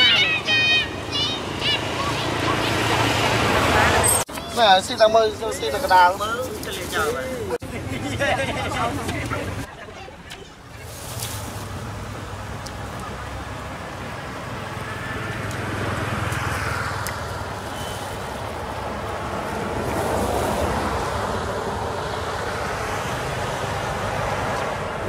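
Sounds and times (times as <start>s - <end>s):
vehicles rushing past: 0.0s - 25.0s.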